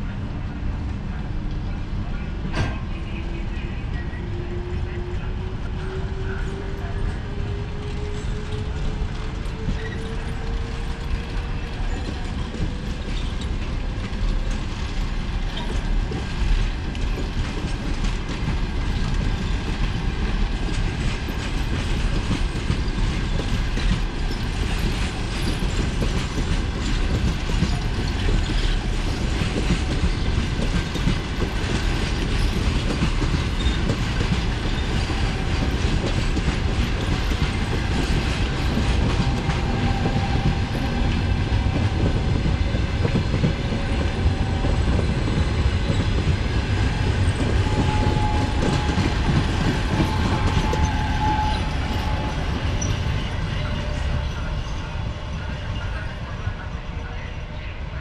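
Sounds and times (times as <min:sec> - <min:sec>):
low train rumble: 0:00.0 - 0:58.0
train wheels clicking over rail joints: 0:07.4 - 0:54.4.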